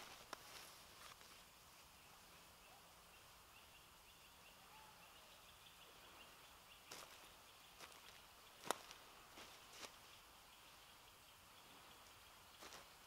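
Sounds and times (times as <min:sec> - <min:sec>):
faint distant bird chirps: 0:00.0 - 0:13.0.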